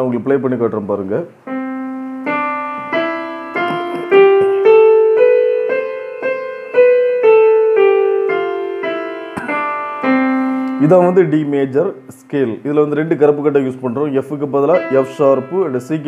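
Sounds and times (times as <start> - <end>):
electronic keyboard playing a scale: 1.5 - 16.0.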